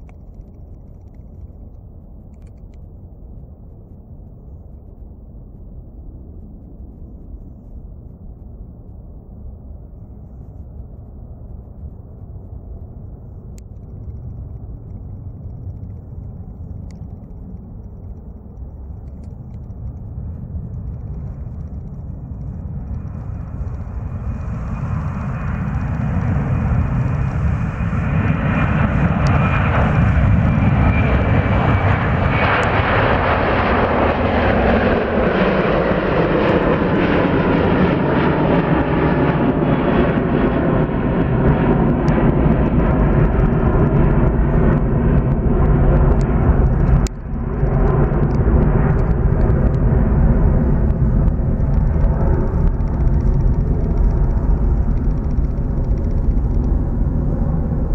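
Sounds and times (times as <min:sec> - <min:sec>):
jet engines at takeoff: 0:00.0 - 0:57.9.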